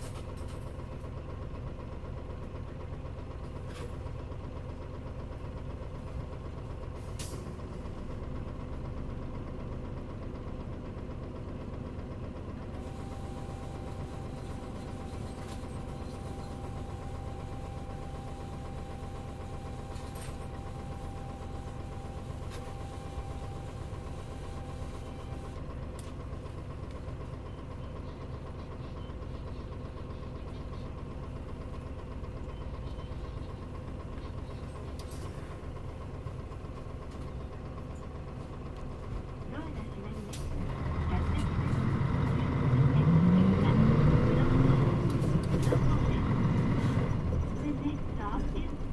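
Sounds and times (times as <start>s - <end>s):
bus engine running: 0.0s - 48.9s.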